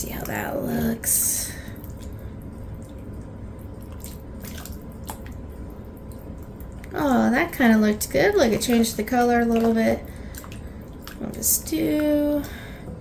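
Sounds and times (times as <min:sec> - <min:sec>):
thick stew squelching and sloshing: 0:00.0 - 0:13.0.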